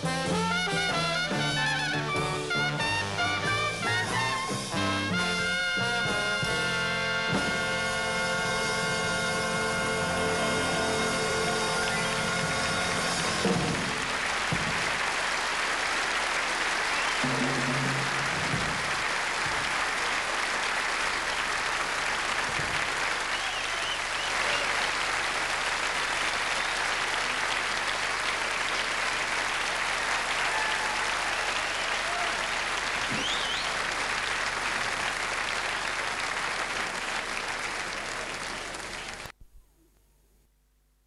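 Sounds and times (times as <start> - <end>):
audience applauding: 0.0 - 39.4.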